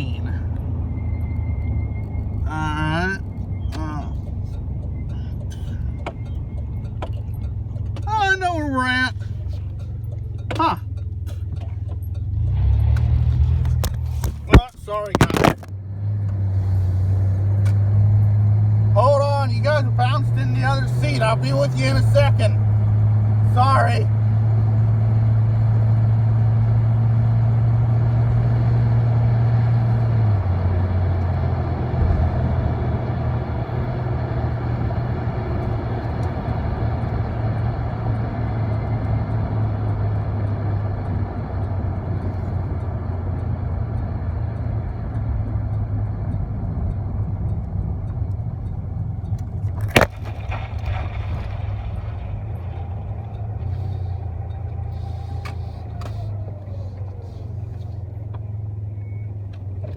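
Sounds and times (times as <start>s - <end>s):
truck engine and road noise: 0.0s - 59.9s.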